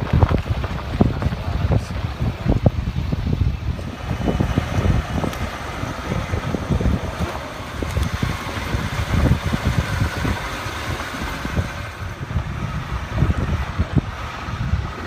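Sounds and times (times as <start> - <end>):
vehicle engine and tyres rumbling: 0.0 - 15.0
vehicle thumping on rough track: 0.0 - 15.0.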